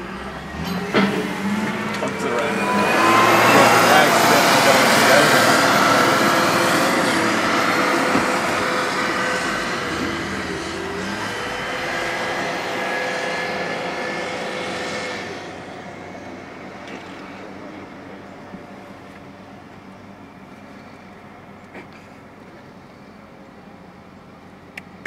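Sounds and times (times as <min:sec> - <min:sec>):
wheel loader diesel engine: 0:00.0 - 0:25.0.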